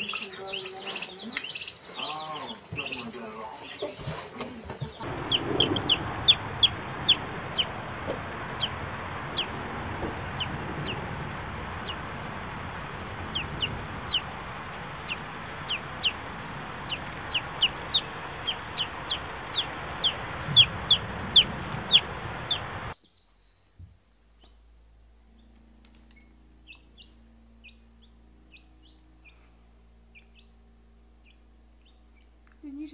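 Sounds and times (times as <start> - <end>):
baby chick peeping: 0.0 - 7.8, 8.5 - 9.6, 10.3 - 11.0, 11.8 - 12.0, 13.3 - 14.3, 15.0 - 23.5, 25.3 - 32.9.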